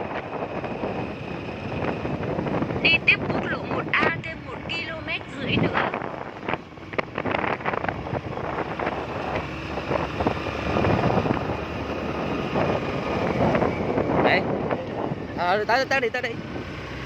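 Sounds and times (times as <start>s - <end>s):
motorbike engine running: 0.0s - 17.0s
tyre noise on road: 0.0s - 17.0s
wind buffeting microphone: 0.0s - 17.0s.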